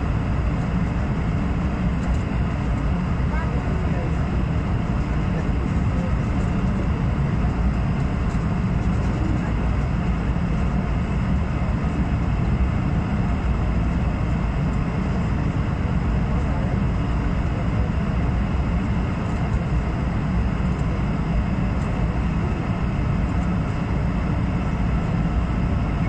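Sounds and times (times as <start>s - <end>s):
engine and airflow rumble: 0.0s - 26.0s.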